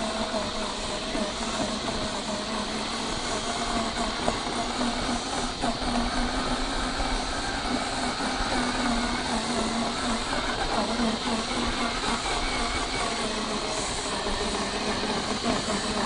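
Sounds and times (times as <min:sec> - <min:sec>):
electric motor and gear whine: 0:00.0 - 0:16.0
tyres on loose dirt: 0:00.0 - 0:16.0.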